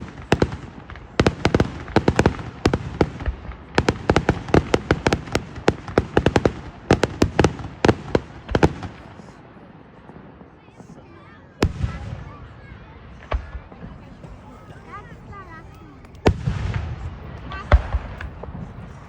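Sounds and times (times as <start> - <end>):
fireworks bangs and pops: 0.0 - 19.0
fireworks crackling: 0.0 - 19.0.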